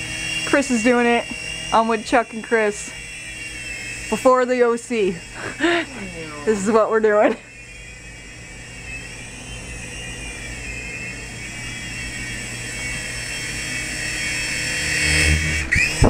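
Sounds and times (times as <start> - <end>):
toy helicopter motor whine: 0.0 - 16.0.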